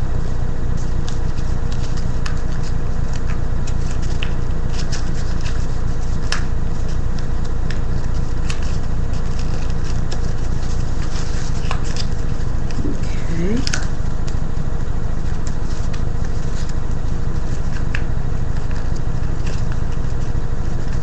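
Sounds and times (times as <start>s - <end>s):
paper crinkling: 0.0s - 21.0s.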